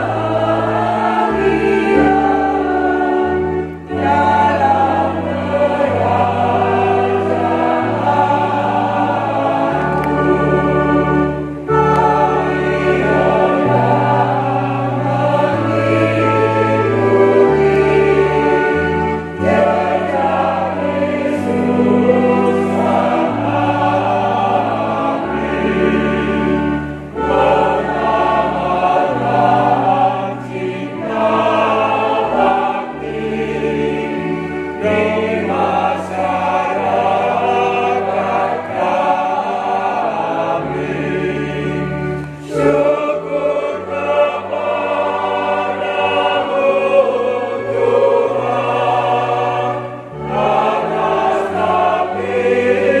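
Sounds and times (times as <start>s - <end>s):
choir singing a hymn: 0.0s - 53.0s
keyboard sustained bass notes: 0.0s - 53.0s.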